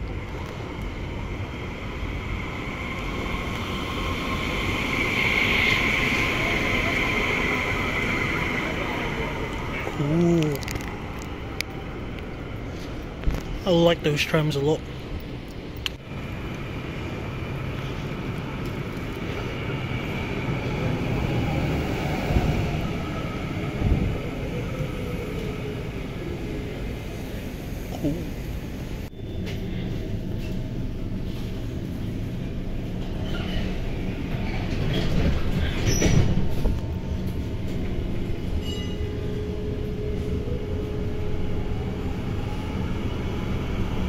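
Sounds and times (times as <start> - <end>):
tram passing: 0.0 - 44.0.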